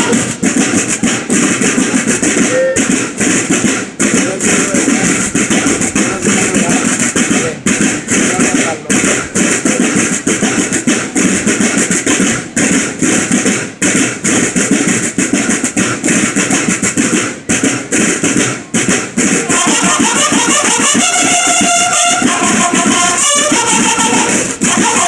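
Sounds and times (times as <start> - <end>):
bugles holding notes: 0.0 - 25.0
snare drums marching cadence: 0.0 - 25.0.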